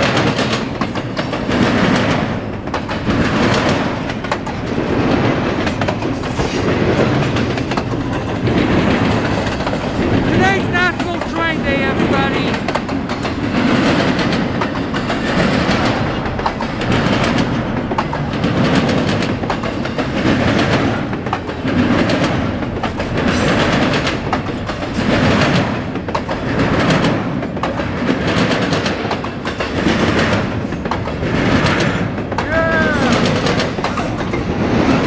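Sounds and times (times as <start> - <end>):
freight train cars rolling past: 0.0 - 35.0
wheels clicking over rail joints: 0.0 - 35.0.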